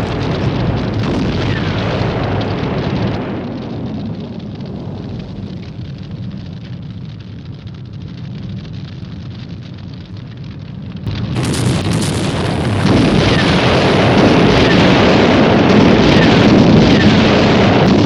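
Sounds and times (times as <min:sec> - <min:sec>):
loud explosion blast: 0:00.0 - 0:08.7, 0:10.0 - 0:18.0
explosion rumble with crackling: 0:00.0 - 0:18.0.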